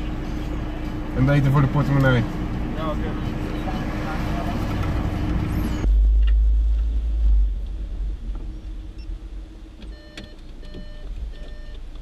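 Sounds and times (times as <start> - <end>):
car rumble inside cabin: 0.0 - 12.0.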